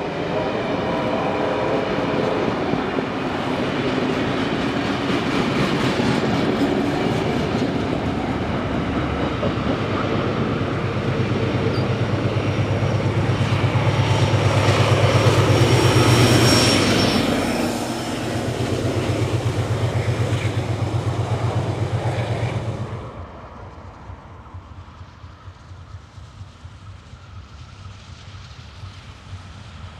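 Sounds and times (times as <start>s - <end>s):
diesel locomotive engine throbbing: 0.0s - 29.9s.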